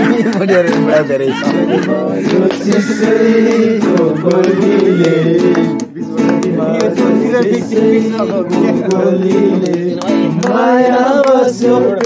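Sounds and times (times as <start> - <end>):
guitar: 0.0 - 12.0
person singing: 0.0 - 12.0.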